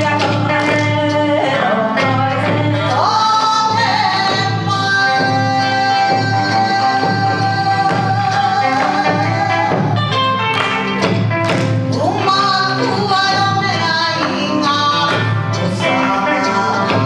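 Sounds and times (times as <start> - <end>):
woman singing into microphone: 0.0 - 10.5, 11.2 - 17.0
instrumental accompaniment: 0.0 - 17.0.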